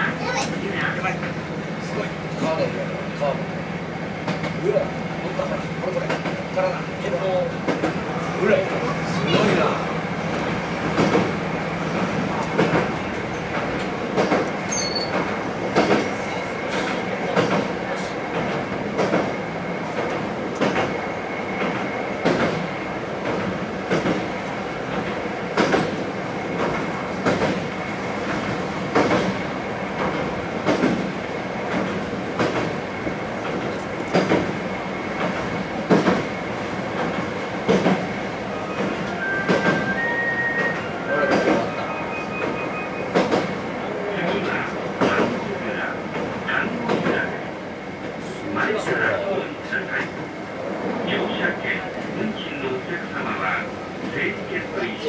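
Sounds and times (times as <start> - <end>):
diesel railcar running: 0.0 - 55.0.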